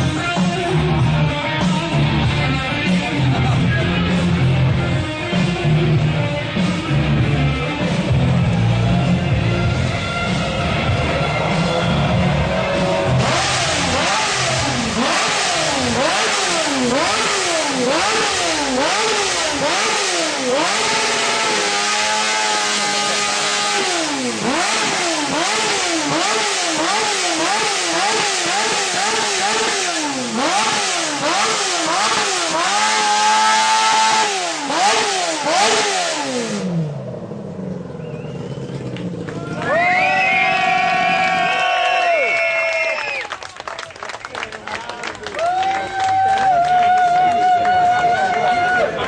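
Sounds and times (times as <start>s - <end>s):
motorcycle engine revving: 0.0s - 42.2s.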